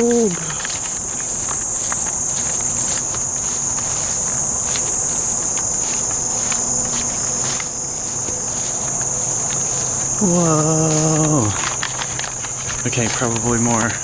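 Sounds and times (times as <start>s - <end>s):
insects chorus trilling: 0.0s - 14.0s.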